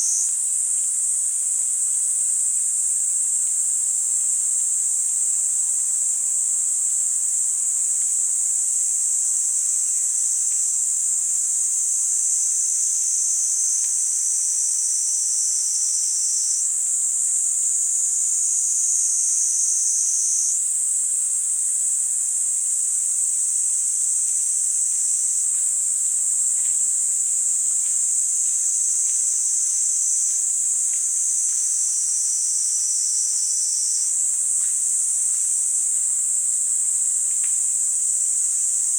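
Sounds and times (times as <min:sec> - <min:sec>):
cicadas buzzing chorus: 0:00.0 - 0:38.9.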